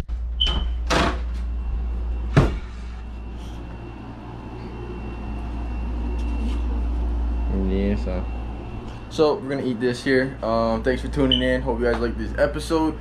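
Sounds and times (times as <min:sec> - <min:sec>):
air conditioner humming: 0:00.0 - 0:13.0
faint thin whine: 0:00.5 - 0:12.9.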